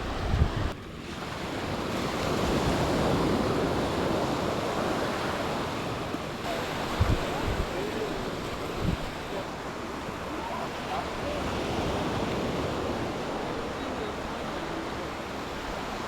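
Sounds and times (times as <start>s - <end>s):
wind buffeting microphone: 0.0s - 14.3s
waves breaking on shore: 0.0s - 16.0s.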